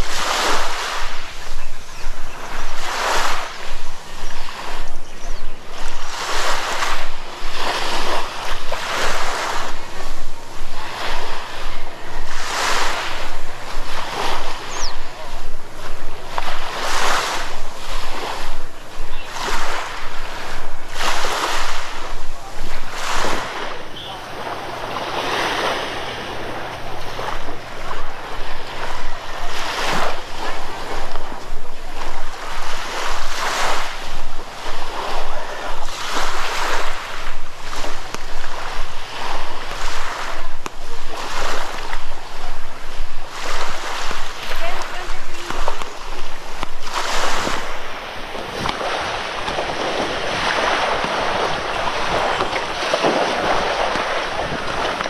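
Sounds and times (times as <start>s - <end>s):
waves washing on beach: 0.0s - 55.0s
wind on microphone: 0.0s - 55.0s.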